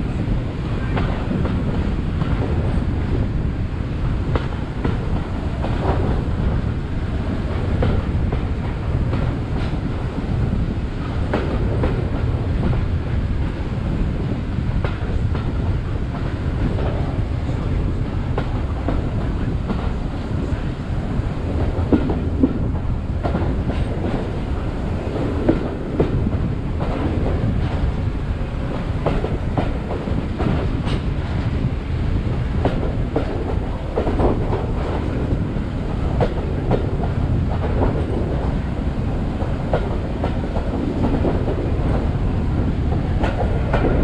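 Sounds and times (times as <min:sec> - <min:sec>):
train wheels rumbling: 0:00.0 - 0:44.0.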